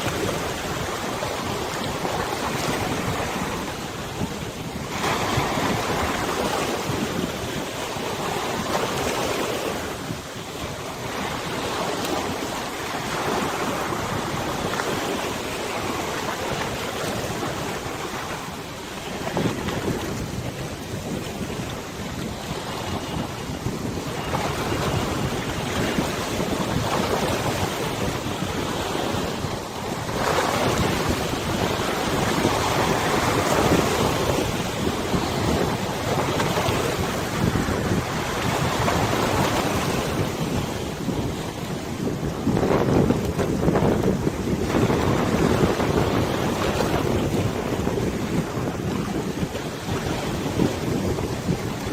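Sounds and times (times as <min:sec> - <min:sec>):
river water lapping: 0:00.0 - 0:51.9
wind buffeting microphone: 0:00.0 - 0:51.9.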